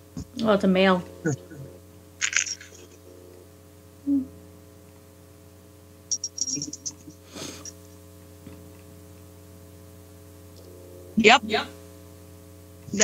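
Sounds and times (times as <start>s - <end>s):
low electrical mains hum: 0.0s - 13.0s.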